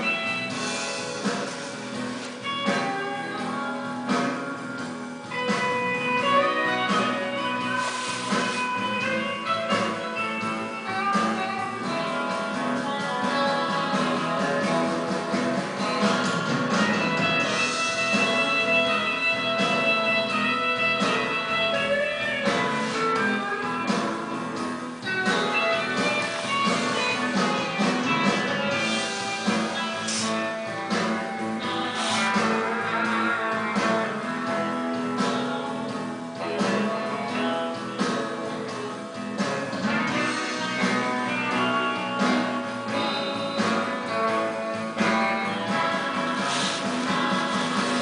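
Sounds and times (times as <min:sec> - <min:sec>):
guitar-led instrumental music: 0:00.0 - 0:48.0.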